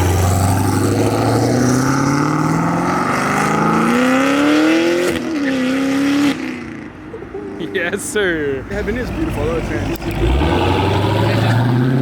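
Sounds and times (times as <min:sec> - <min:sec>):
car engine accelerating: 0:00.0 - 0:06.8, 0:08.7 - 0:12.0.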